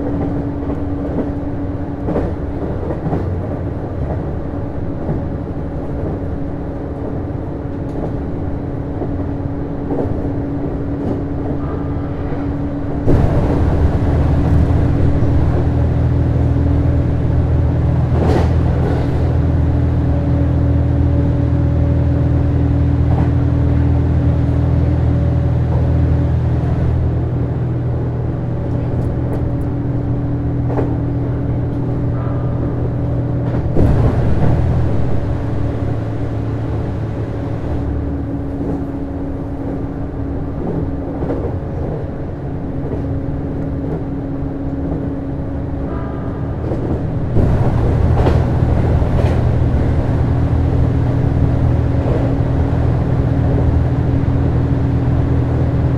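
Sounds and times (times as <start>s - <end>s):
train engine hum: 0.0s - 55.9s
wheels rumbling on rails: 0.0s - 55.9s.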